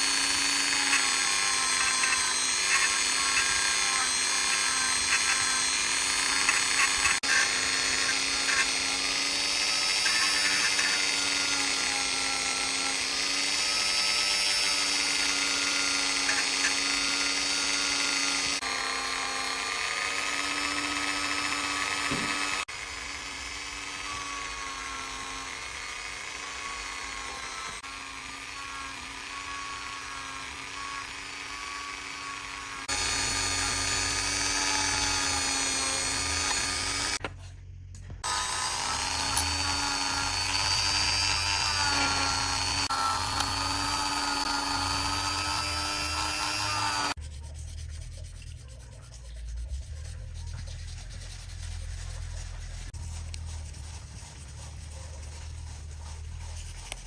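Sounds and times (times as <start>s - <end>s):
rotary tool whining: 0.0s - 37.3s, 38.0s - 57.0s.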